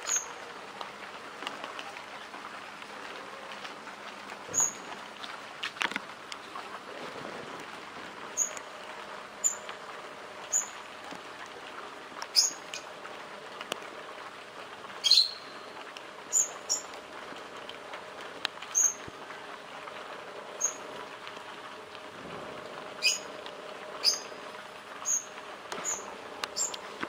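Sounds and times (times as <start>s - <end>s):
rain pattering on leaves: 0.0s - 27.0s.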